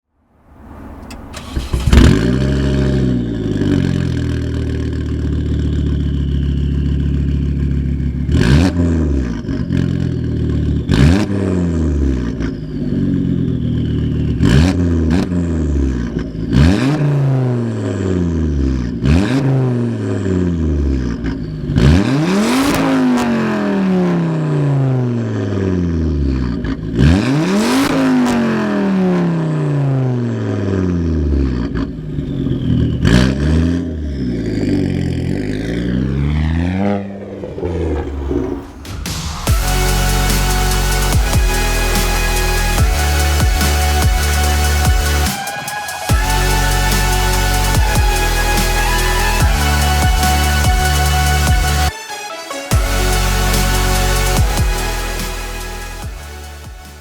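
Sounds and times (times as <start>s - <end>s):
car engine starting and idling: 0.2s - 57.0s
engine revving: 0.4s - 52.0s, 52.7s - 57.0s.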